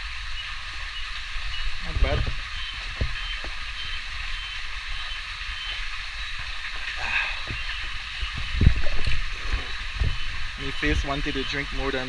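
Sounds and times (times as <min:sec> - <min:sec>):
cicadas chorus: 0:00.0 - 0:12.0
low rumble: 0:00.0 - 0:12.0
stream flowing: 0:00.0 - 0:12.0.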